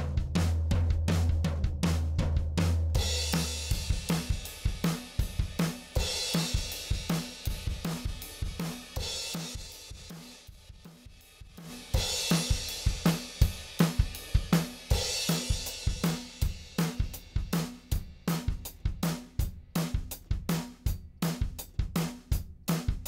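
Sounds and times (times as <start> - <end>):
drum kit groove: 0.0 - 23.0.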